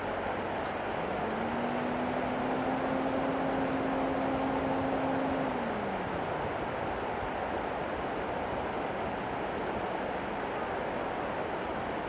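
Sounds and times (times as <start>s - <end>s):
distant engine hum: 0.0s - 12.0s
rushing outdoor noise: 0.0s - 12.0s.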